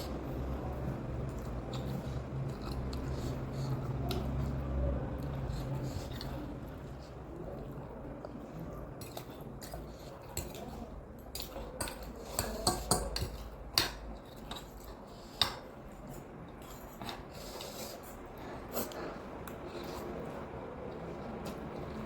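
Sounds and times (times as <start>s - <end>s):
utensils clinking against a bowl: 0.0s - 22.0s.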